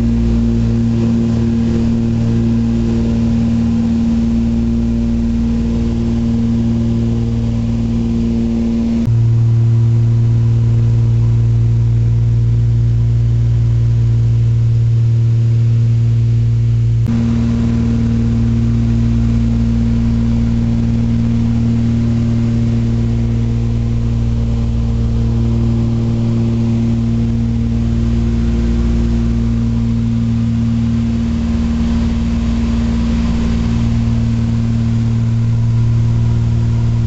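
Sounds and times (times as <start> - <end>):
propeller aircraft cabin drone: 0.0 - 37.0.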